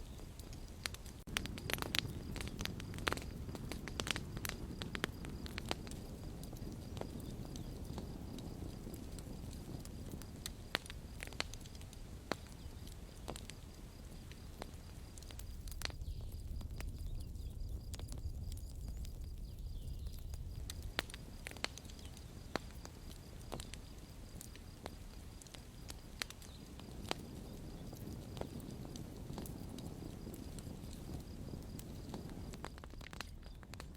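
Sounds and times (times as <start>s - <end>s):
burning wood crackling and popping: 0.0s - 33.9s
flames rumbling: 0.0s - 33.9s.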